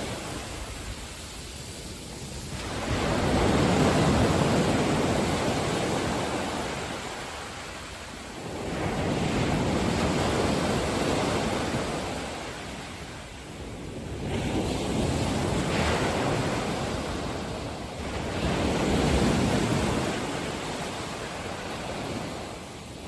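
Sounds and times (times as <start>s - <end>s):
sea waves rushing: 0.0s - 23.0s.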